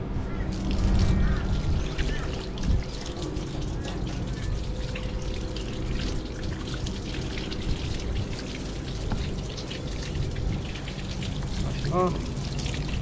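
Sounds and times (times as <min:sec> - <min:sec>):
tap water splattering on metal: 0:01.9 - 0:13.0.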